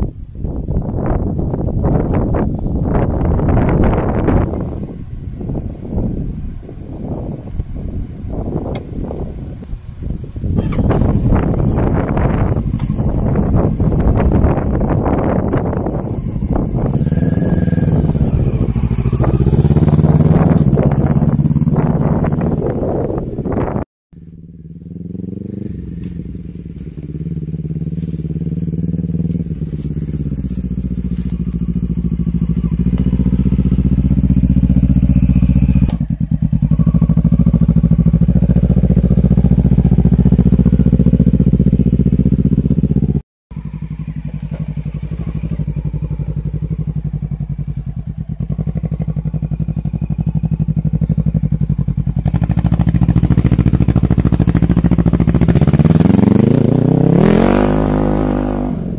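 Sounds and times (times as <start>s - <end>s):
quad bike engine running: 0.5s - 58.9s.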